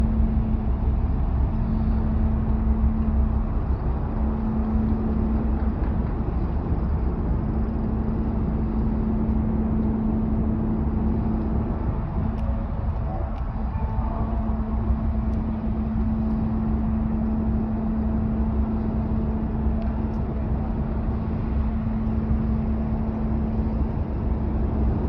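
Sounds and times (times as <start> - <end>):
low rumble: 0.0 - 25.0
ship engines humming: 0.0 - 25.0.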